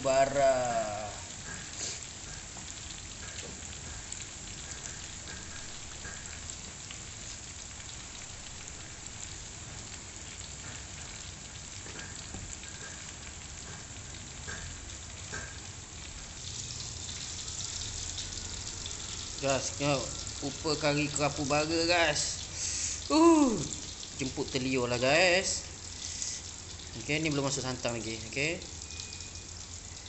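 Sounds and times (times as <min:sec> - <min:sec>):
sauce bubbling and sizzling: 0:00.0 - 0:30.0.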